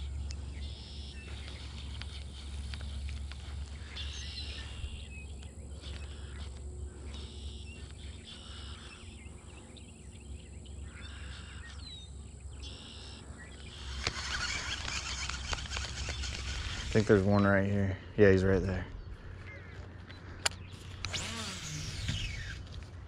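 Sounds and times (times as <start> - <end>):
birds calling: 0.0 - 23.0.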